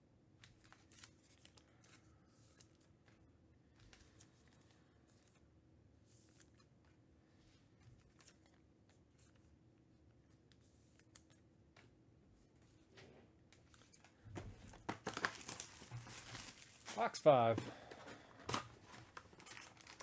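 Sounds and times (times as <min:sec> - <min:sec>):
cards being handled: 0:00.4 - 0:20.0.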